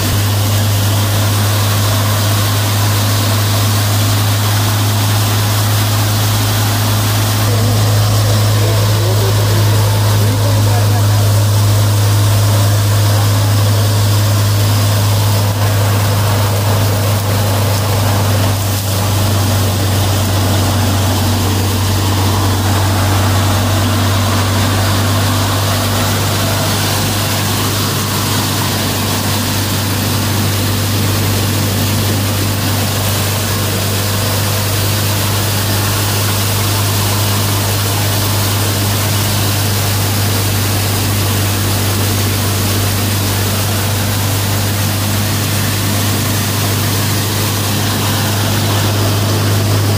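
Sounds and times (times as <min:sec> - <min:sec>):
thresher machine humming: 0:00.0 - 0:49.9.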